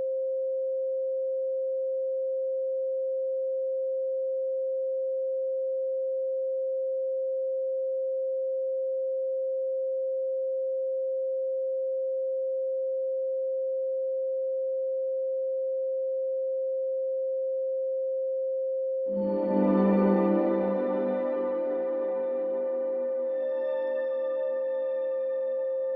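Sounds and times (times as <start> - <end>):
pure sine tone: 0.0 - 25.9.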